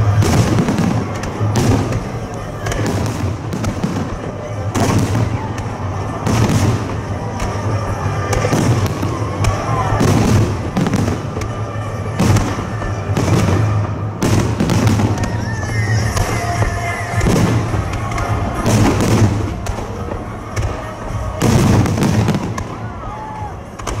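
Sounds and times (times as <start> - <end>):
firework booms: 0.0 - 24.0
fireworks crackling: 0.0 - 24.0.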